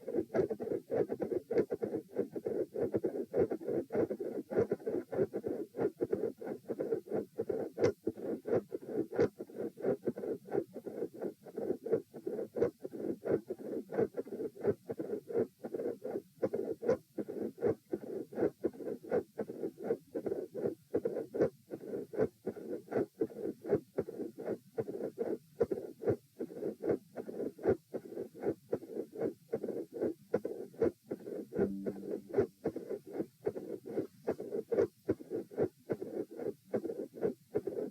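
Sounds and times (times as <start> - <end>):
heartbeat through stethoscope: 0.0 - 37.9.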